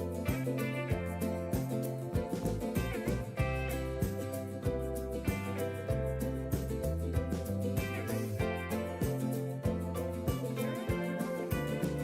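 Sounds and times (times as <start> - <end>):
acoustic guitar with bass: 0.0 - 12.0.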